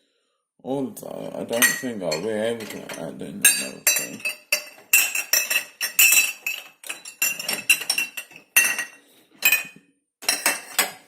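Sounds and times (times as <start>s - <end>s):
crockery and cutlery clinking: 1.5s - 11.0s.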